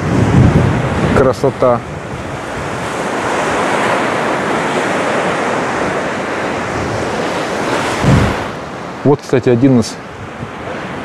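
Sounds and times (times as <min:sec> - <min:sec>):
strong wind: 0:00.0 - 0:11.0
waves breaking against seawall: 0:00.0 - 0:11.0.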